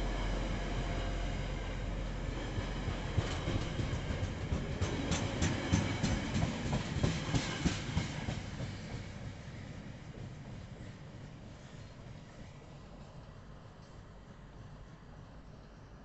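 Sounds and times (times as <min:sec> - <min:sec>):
freight train rumbling past: 0:00.0 - 0:15.2.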